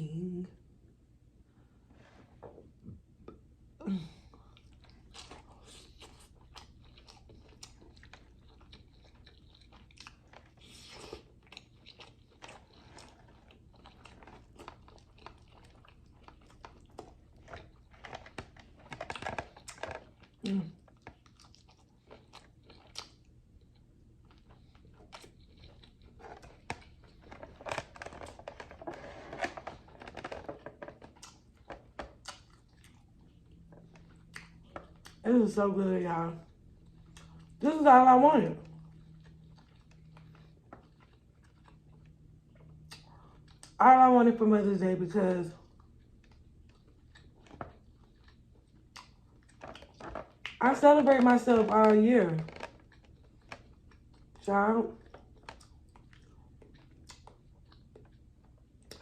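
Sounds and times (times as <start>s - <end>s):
person chewing crunchy food: 4.3s - 35.2s, 36.4s - 37.6s, 38.6s - 43.8s, 45.6s - 59.0s.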